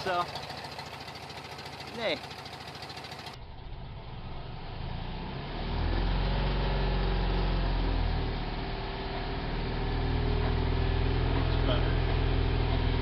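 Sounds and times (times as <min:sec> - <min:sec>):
van engine running and revving: 0:00.0 - 0:13.0.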